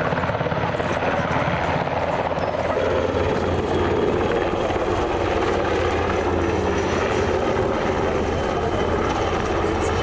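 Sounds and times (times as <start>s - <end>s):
helicopter engine and rotor: 0.0s - 10.0s.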